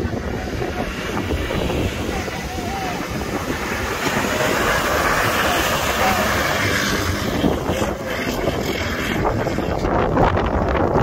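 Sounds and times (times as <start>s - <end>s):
engines driving hard: 0.0s - 11.0s
wheels churning through mud: 0.0s - 11.0s
wind buffeting microphone: 0.0s - 11.0s.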